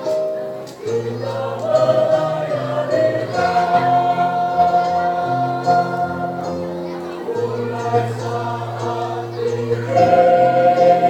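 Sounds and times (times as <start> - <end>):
choir singing a hymn: 0.8 - 11.0.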